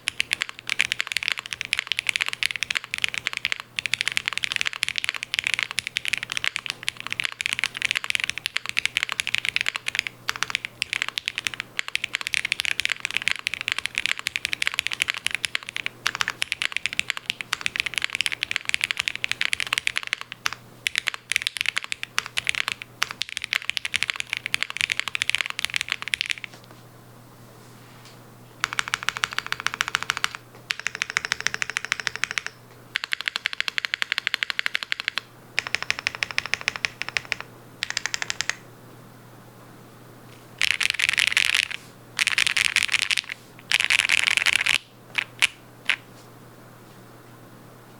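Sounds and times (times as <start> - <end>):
mechanical keyboard typing: 0.0 - 26.5, 28.6 - 38.6, 40.6 - 46.0.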